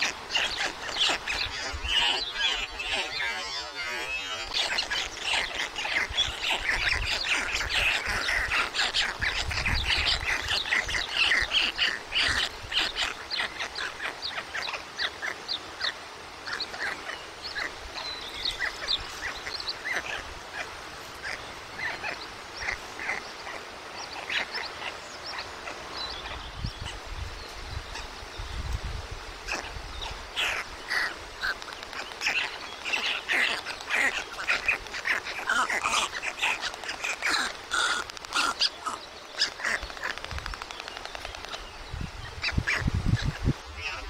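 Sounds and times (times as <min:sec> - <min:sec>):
stork chicks begging calls: 0:00.0 - 0:27.2, 0:29.4 - 0:40.6.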